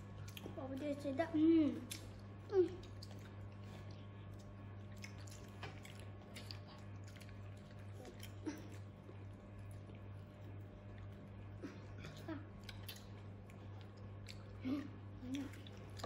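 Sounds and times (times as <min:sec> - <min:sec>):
chewing: 0:00.0 - 0:01.1, 0:01.7 - 0:16.0
low electrical hum: 0:00.0 - 0:16.0.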